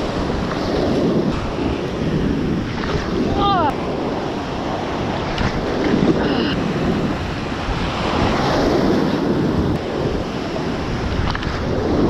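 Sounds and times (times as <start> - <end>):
ocean surf washing up beach: 0.0 - 12.0
wind buffeting microphone: 0.0 - 12.0.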